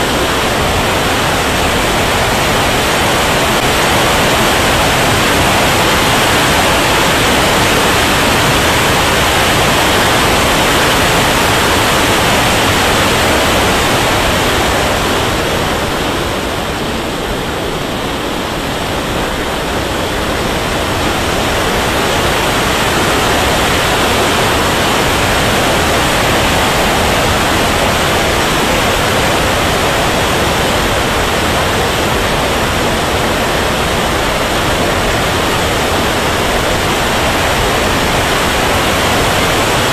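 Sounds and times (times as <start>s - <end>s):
jet turbine and airflow rush: 0.0s - 39.9s.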